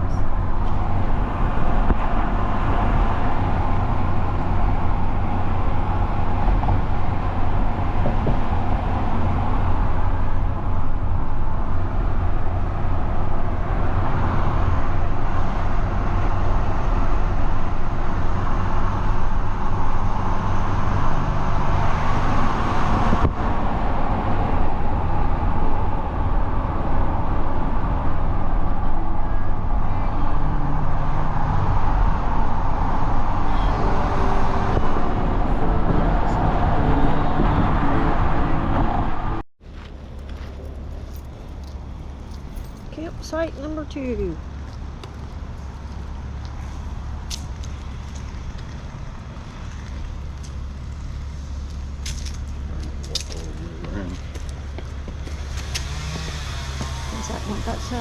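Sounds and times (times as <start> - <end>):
vehicle engine rumble: 0.0 - 58.0.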